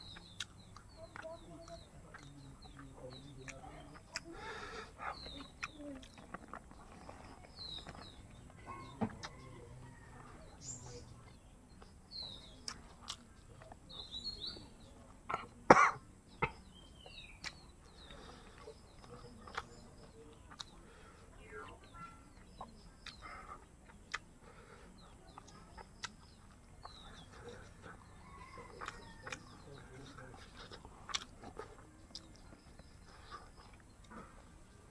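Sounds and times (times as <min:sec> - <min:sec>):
person chewing food: 0:00.0 - 0:10.3, 0:11.3 - 0:13.9, 0:17.0 - 0:34.9
birds chirping: 0:00.0 - 0:34.9.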